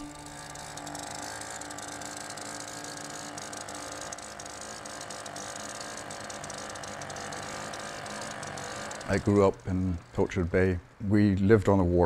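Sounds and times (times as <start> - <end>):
outboard motor running: 0.0 - 10.7.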